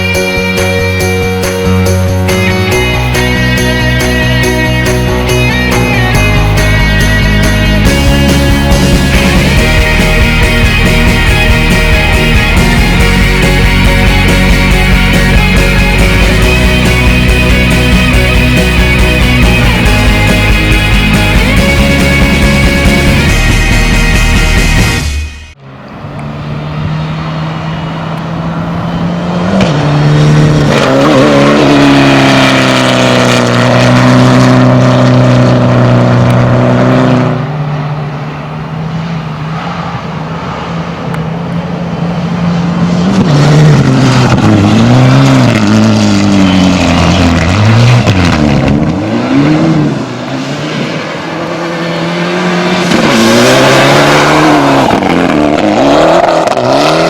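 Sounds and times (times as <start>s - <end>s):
car engine revving at high revs: 6.2s - 25.0s, 25.8s - 57.0s.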